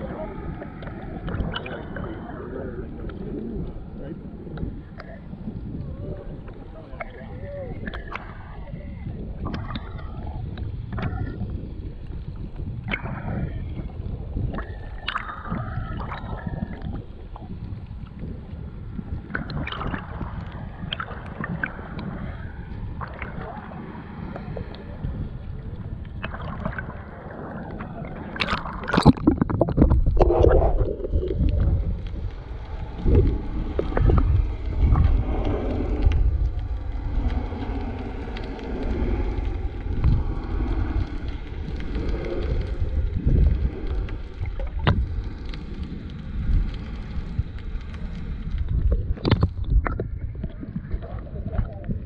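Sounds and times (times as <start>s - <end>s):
underwater rumble and gurgling: 0.0s - 52.0s
water splashes: 0.0s - 52.0s.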